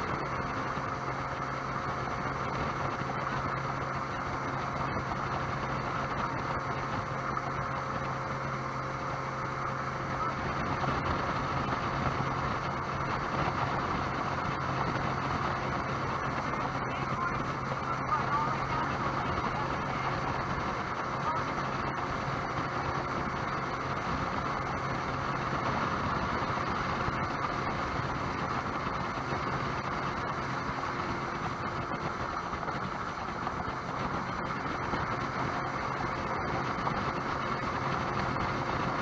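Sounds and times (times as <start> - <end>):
jet boat engine drone: 0.0 - 39.0
water rushing past hull: 0.0 - 39.0.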